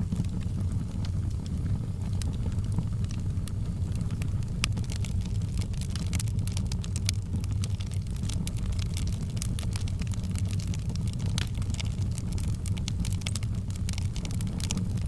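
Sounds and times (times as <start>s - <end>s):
fire crackling and popping: 0.0s - 15.0s
wood fire rumbling: 0.0s - 15.0s.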